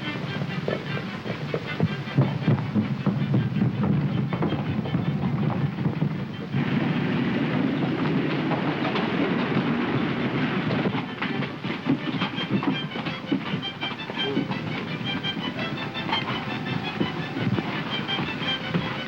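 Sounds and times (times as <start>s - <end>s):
train wheels clattering on rails: 0.0s - 19.0s.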